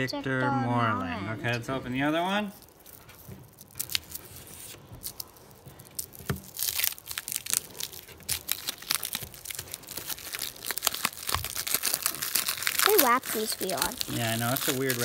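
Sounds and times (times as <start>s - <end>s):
foil wrapper crinkling and tearing: 2.3s - 15.0s.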